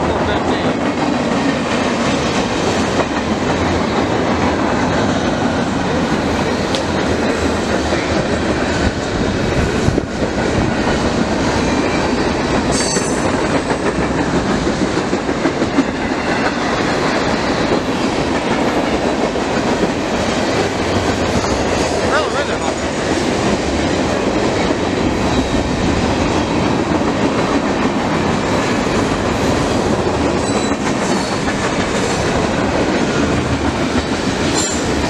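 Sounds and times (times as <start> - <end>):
train wheels rumbling and clattering: 0.0 - 35.0.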